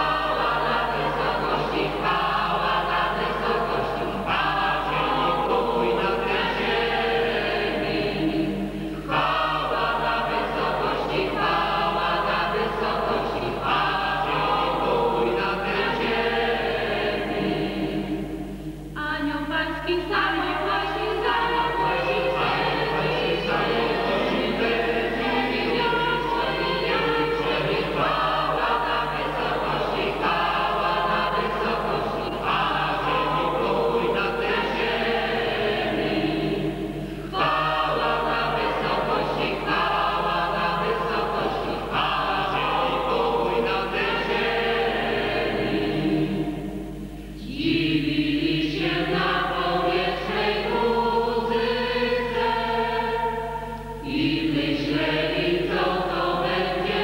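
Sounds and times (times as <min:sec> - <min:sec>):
choir singing a carol: 0:00.0 - 0:57.0.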